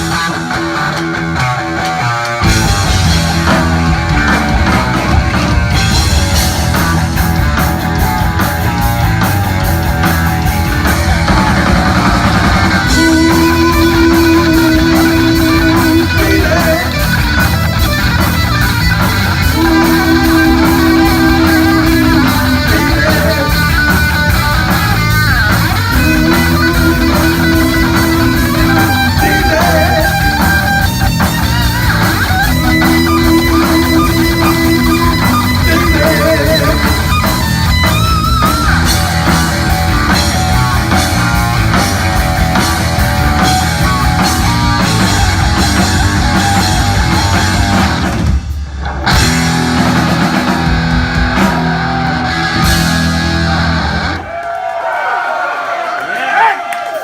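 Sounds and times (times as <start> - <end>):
heavy metal band playing: 0.0 - 54.4
electric guitar: 0.0 - 54.5.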